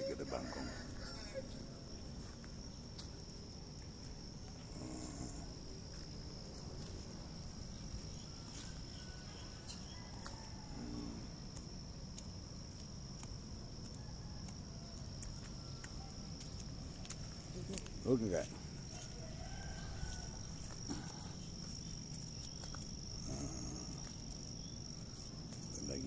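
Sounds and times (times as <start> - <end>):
insects trilling: 0.0 - 26.0
low rumble of background noise: 0.0 - 26.0.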